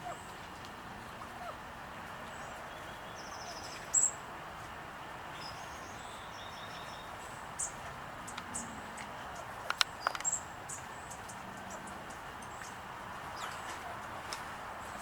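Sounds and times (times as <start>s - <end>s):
outdoor background noise: 0.0s - 15.0s
small songbirds chirping: 1.9s - 15.0s.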